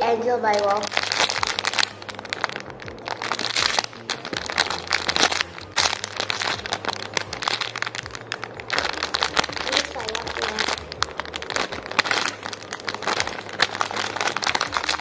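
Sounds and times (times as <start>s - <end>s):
plastic bag crinkling: 0.4s - 15.0s.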